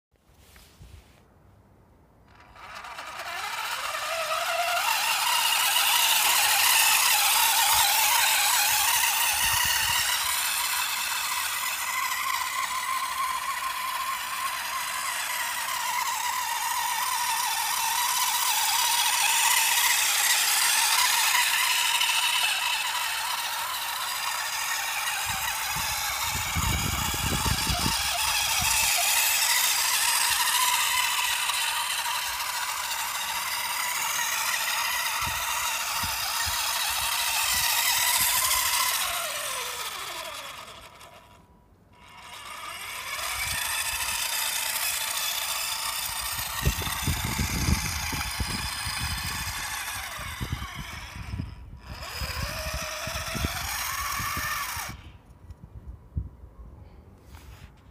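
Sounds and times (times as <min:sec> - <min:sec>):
electric motor and gearing whine: 0:02.2 - 0:55.7.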